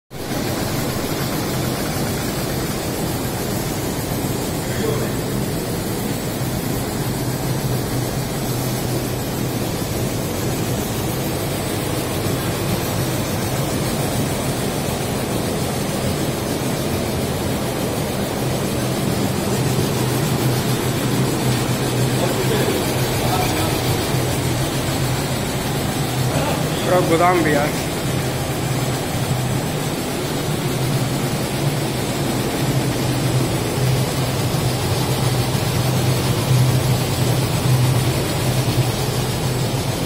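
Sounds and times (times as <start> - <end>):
lamination machine humming: 0.2 - 40.0.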